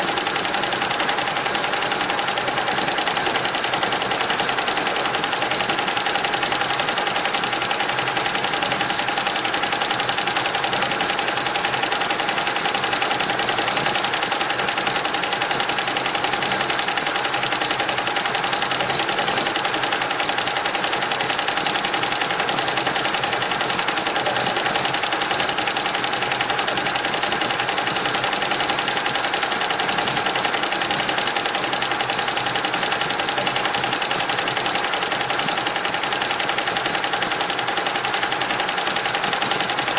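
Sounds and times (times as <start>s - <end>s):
embroidery machine needle clatter: 0.0s - 39.9s.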